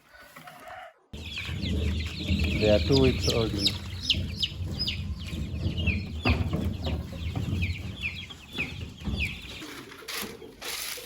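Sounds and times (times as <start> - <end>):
chicks peeping: 0.7 - 11.0.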